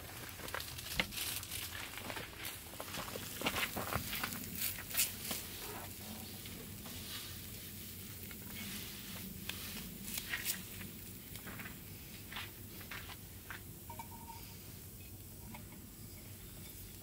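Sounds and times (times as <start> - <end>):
soft faint sizzle: 0.0 - 17.0.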